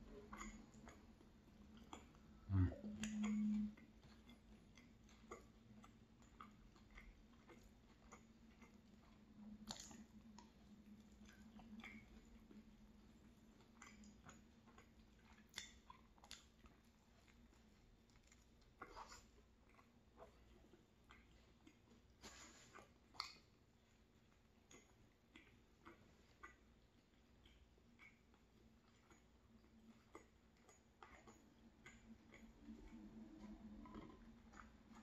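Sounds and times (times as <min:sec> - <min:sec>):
faint chewing and mouth clicks: 0:00.0 - 0:35.0.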